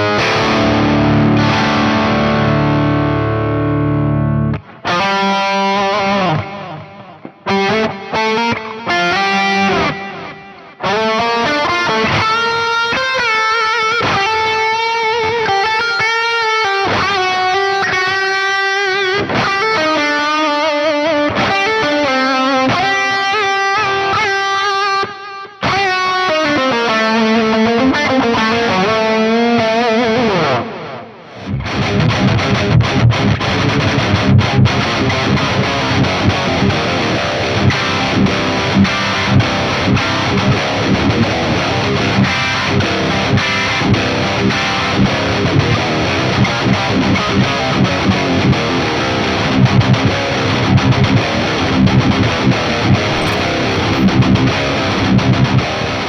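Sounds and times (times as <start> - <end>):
distorted electric guitar riff: 0.0 - 51.5, 53.0 - 56.0
electric guitar lead melody: 0.0 - 56.0.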